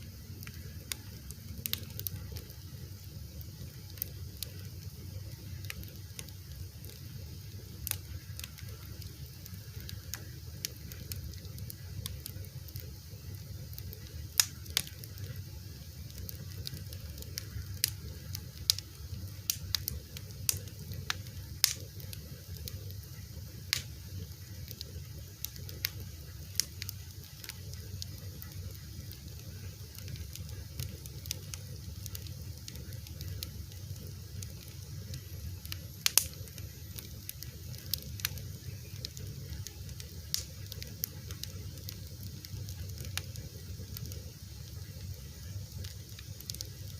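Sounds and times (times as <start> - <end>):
fire crackling and popping: 0.0 - 46.9.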